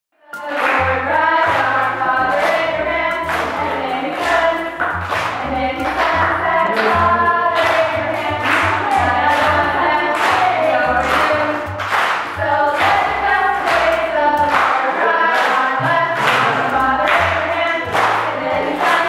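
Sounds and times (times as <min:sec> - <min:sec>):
music with steady beat: 0:00.2 - 0:19.0
choir singing: 0:00.3 - 0:19.0
deep bass line: 0:00.8 - 0:14.5, 0:15.8 - 0:18.7.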